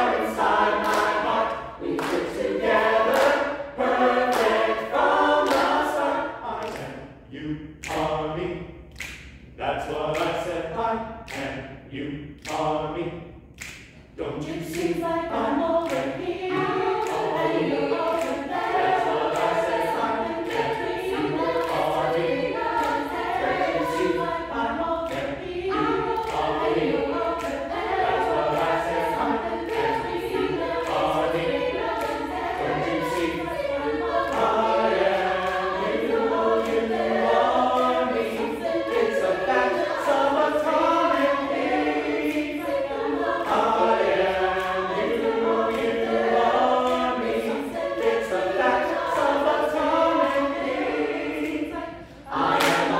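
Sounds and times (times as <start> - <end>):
mixed choir singing: 0.0 - 8.7, 9.6 - 13.3, 14.2 - 52.9.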